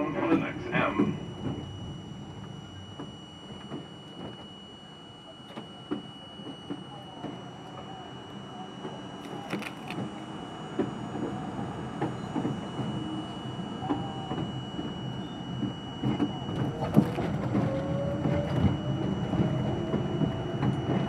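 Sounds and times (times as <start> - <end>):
subway train rumble: 0.0 - 21.0
thin high whine: 0.0 - 21.0.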